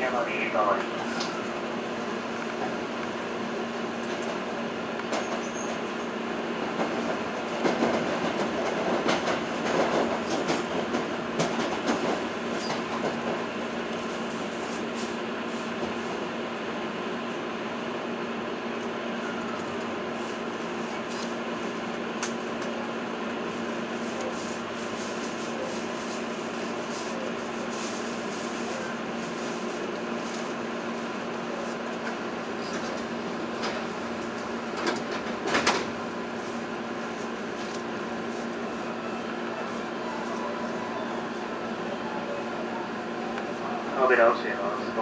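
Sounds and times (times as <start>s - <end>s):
train cabin hum: 0.0s - 45.0s.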